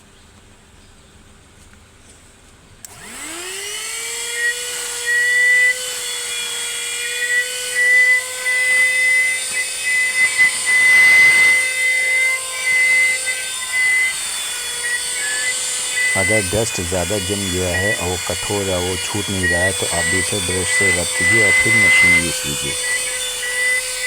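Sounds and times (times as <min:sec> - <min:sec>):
handheld vacuum cleaner whining: 0:02.8 - 0:24.0.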